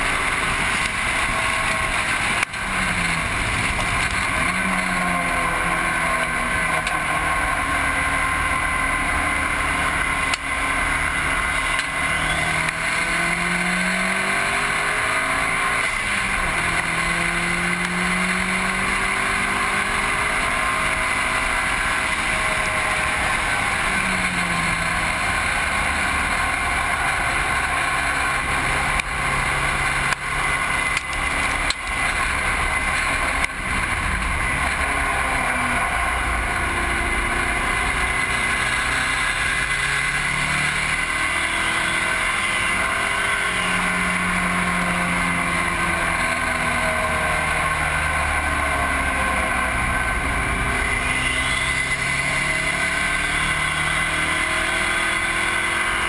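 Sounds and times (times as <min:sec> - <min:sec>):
car engine accelerating: 0:00.0 - 0:56.0
road roar: 0:00.0 - 0:56.0.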